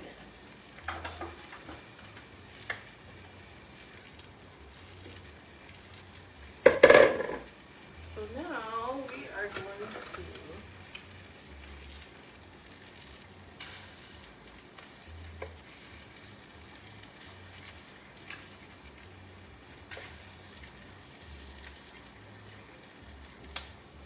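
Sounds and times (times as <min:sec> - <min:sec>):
pork sizzling in a pot: 0:00.0 - 0:24.0.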